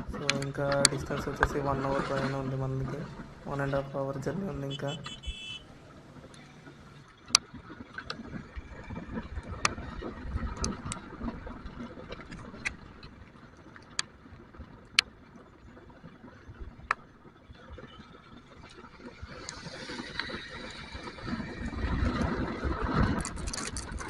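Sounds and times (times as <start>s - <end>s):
motorcycle engine rumble: 0.0s - 24.0s
raindrops ticking on microphone: 0.0s - 24.0s
wind: 0.0s - 24.0s.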